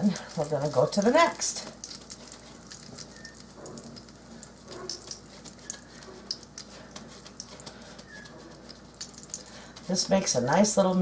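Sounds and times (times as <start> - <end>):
oil frying in a pan: 0.0 - 10.8.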